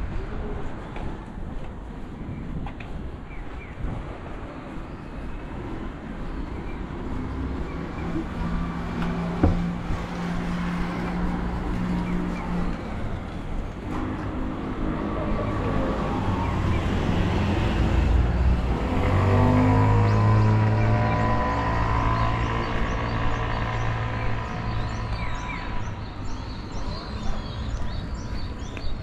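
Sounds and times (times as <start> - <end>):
cars and scooters passing: 3.9 - 29.0.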